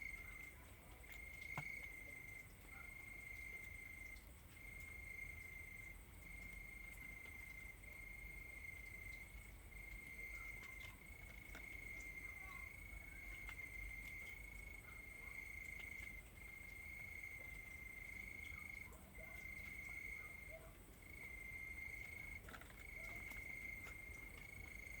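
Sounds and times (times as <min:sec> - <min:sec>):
crickets trilling: 0:00.0 - 0:25.0
faint high insect tones: 0:00.0 - 0:25.0.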